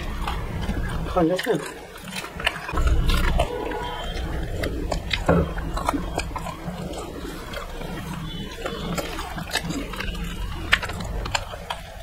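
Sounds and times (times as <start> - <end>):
chewing with mouth clicks: 0.0 - 12.0
lip smacks: 0.0 - 12.0
steady low hum: 0.0 - 12.0.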